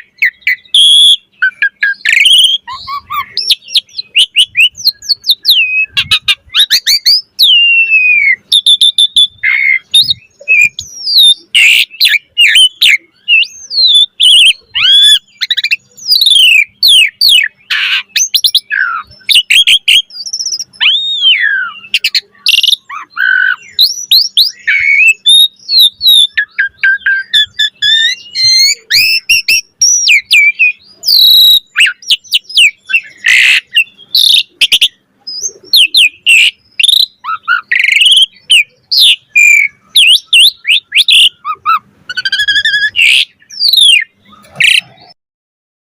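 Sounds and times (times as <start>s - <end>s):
starling singing: 0.0s - 45.2s.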